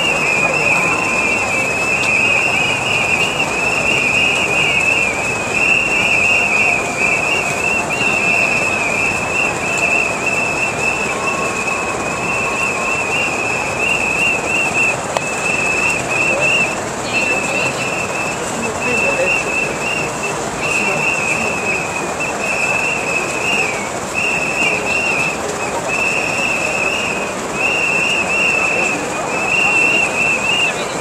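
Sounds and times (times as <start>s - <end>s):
crowd noise: 0.0s - 31.0s
many whistles blowing: 0.0s - 31.0s.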